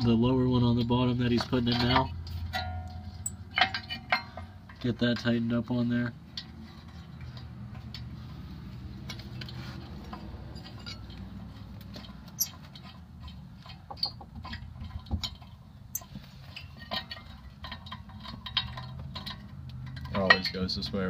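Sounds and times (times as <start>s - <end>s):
hand tools clicking and clinking: 0.8s - 5.3s, 6.3s - 20.8s.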